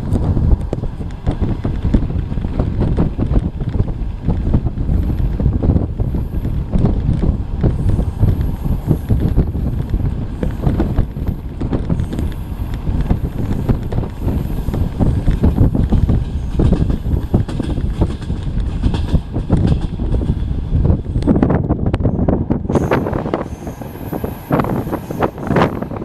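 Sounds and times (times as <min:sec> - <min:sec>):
train carriage rumble: 0:00.0 - 0:26.0
wheels knocking on rails: 0:00.0 - 0:26.0.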